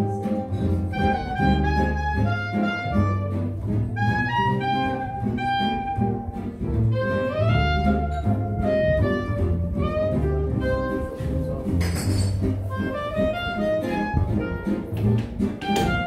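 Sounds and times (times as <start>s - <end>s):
acoustic guitar chords: 0.0s - 16.0s
jazz lead melody: 0.0s - 16.0s
walking bass line: 0.0s - 16.0s.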